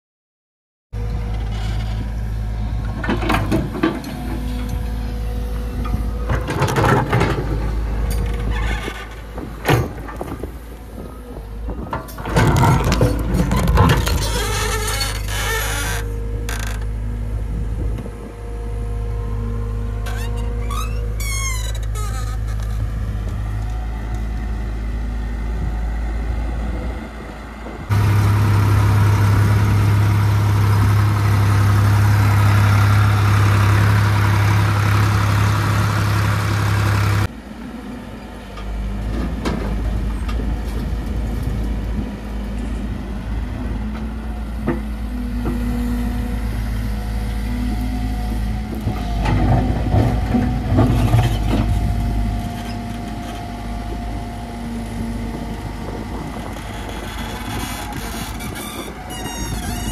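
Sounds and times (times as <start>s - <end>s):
diesel machinery running: 1.0s - 59.9s.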